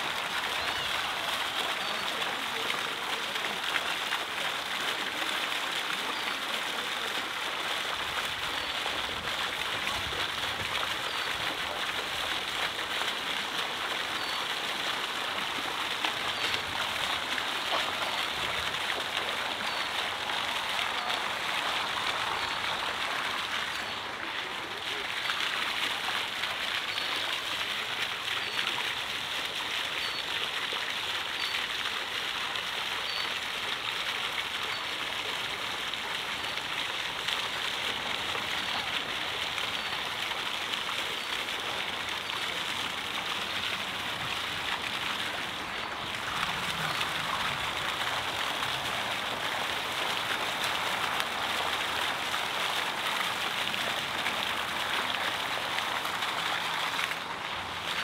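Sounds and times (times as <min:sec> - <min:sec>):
running water hiss: 0:00.0 - 0:58.0.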